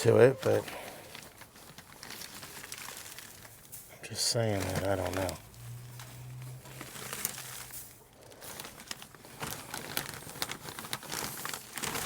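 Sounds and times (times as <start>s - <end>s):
straw rustling and crackling: 0.0s - 12.0s.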